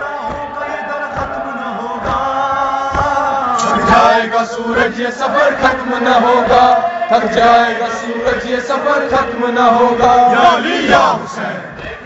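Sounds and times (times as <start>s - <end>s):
men chanting melodic elegy: 0.0s - 12.0s.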